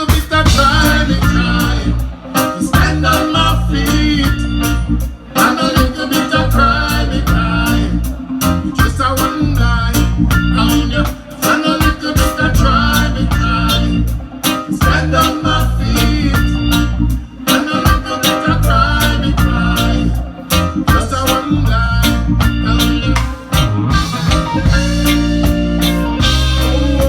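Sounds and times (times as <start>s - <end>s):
reggae band music: 0.0s - 27.0s.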